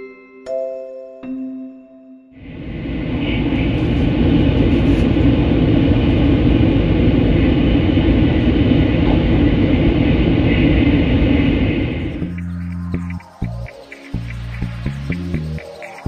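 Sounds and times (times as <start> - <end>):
train cabin rumble and rush: 2.4 - 16.0.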